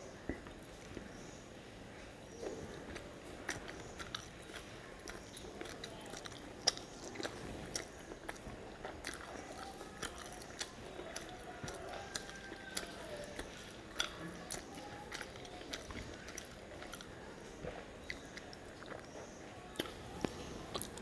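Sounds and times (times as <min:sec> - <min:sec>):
person chewing: 0:02.3 - 0:21.0.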